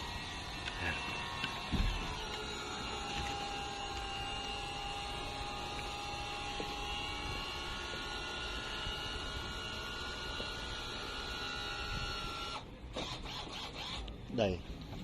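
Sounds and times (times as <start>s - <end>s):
machine hum: 0.0s - 12.9s.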